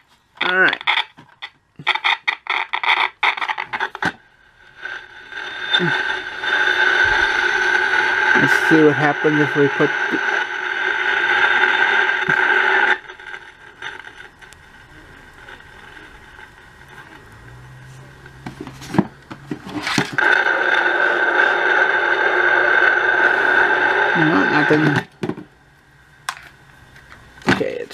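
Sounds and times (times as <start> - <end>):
amplifier electronic hum: 0.0 - 27.9.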